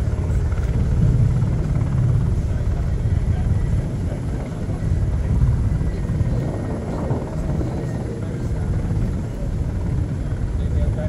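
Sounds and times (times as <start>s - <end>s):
helicopter rotors chopping: 0.0s - 11.0s.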